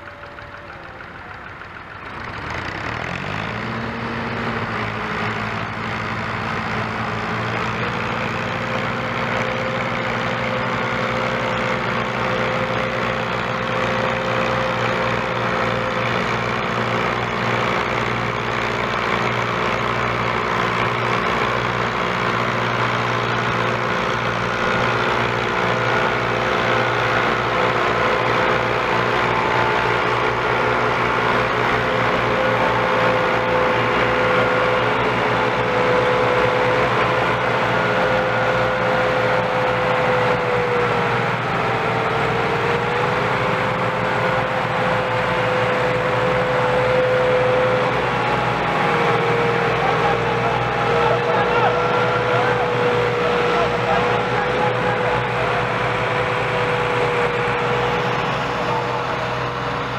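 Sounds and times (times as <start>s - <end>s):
diesel tractor engines revving: 0.0s - 59.9s.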